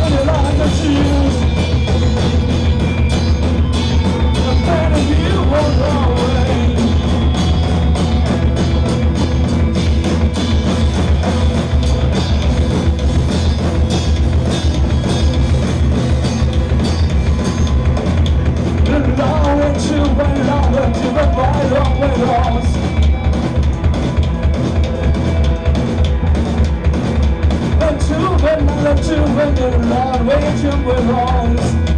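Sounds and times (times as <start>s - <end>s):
drum kit beat: 0.0s - 31.9s
live rock band: 0.0s - 31.9s.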